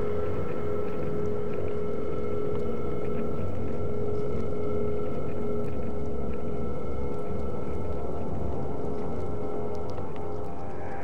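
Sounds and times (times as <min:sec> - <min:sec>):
dark ambient drone music: 0:00.0 - 0:11.0.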